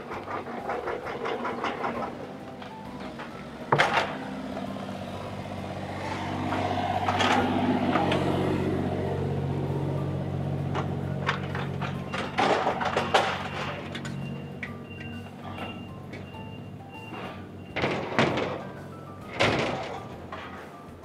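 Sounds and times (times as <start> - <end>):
vehicle motor humming: 0.0 - 21.0.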